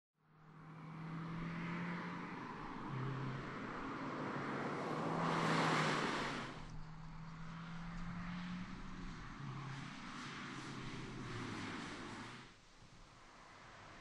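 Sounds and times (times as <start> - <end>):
road and wind noise: 0.2 - 14.0
car engine hum: 0.3 - 14.0.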